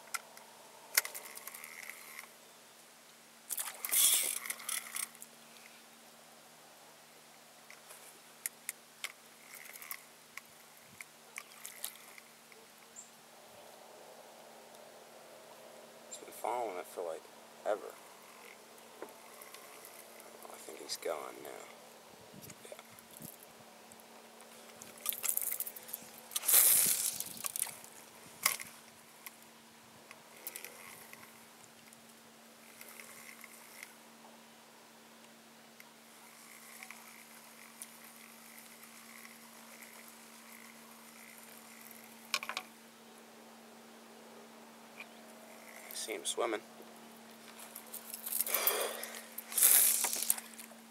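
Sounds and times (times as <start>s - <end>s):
faint steady hum: 0.0s - 50.9s.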